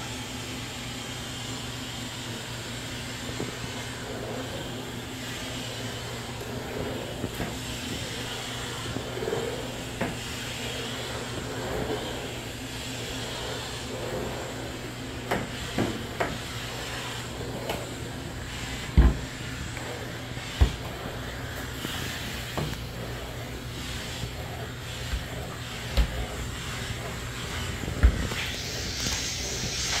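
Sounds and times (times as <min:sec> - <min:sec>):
steam hissing: 0:00.0 - 0:30.0
steam mop humming: 0:00.0 - 0:30.0.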